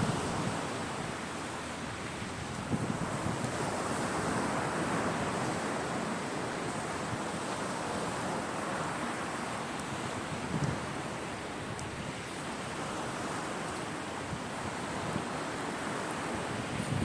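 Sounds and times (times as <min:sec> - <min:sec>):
waves breaking on shore: 0:00.0 - 0:17.0.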